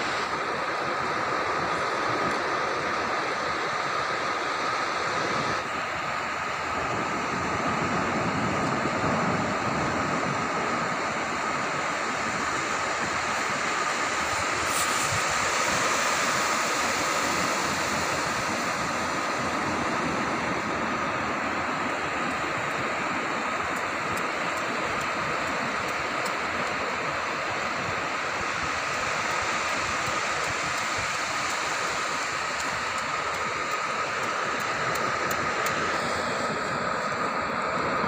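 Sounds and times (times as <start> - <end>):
sea surf breaking on beach: 0.0 - 38.0.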